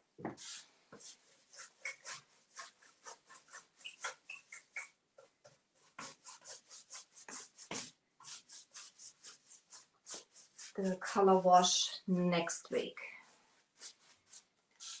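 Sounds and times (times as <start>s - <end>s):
paintbrush rasping on wood: 0.4s - 15.0s.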